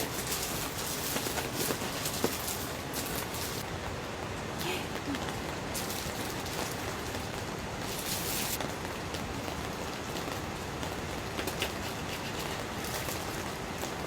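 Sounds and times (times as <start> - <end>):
rain falling on a tent: 0.0 - 14.0.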